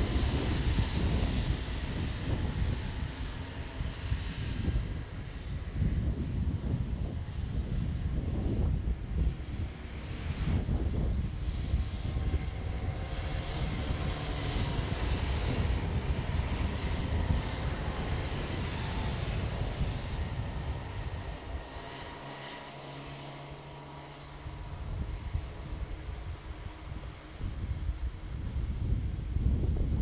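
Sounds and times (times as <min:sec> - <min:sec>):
go-kart engines buzzing: 0:00.0 - 0:28.6
wind rumbling on microphone: 0:00.0 - 0:30.0.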